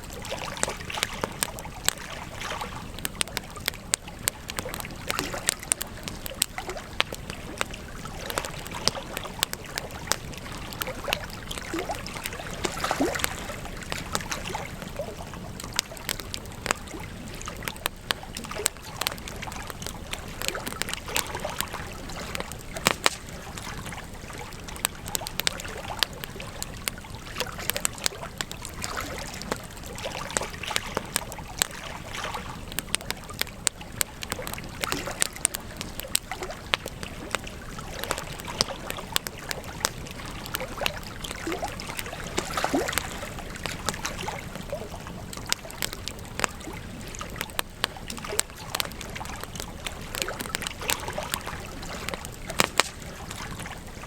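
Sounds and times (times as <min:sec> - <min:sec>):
campfire crackling and popping: 0:00.0 - 0:54.0
soft rush of flames: 0:00.0 - 0:54.0.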